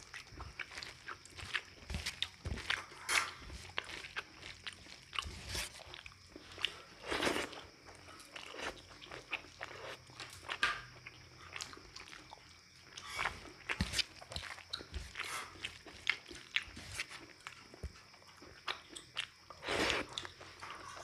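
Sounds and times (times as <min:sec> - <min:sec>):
person chewing and smacking: 0:00.0 - 0:21.0.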